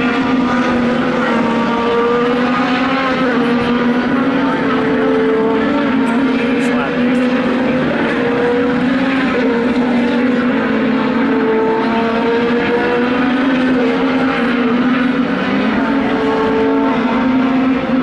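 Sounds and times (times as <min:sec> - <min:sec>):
race car engine running hard: 0:00.0 - 0:18.0.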